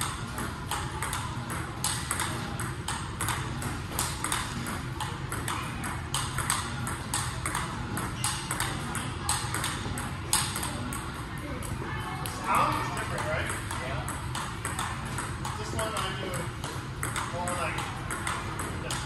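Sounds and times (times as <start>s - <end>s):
table tennis ball clicking: 0.0s - 11.2s, 12.7s - 19.0s.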